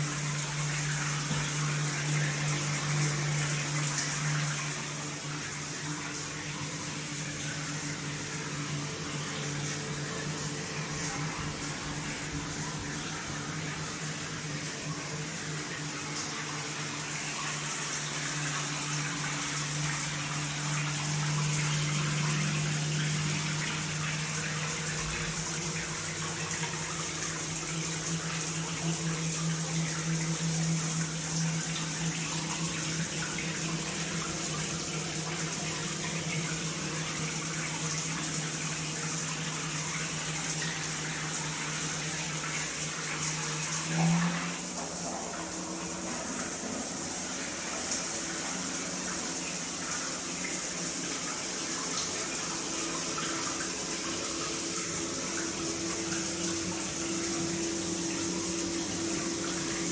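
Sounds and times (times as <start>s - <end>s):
shower valve humming: 0.0s - 59.9s
shower water running: 0.0s - 59.9s.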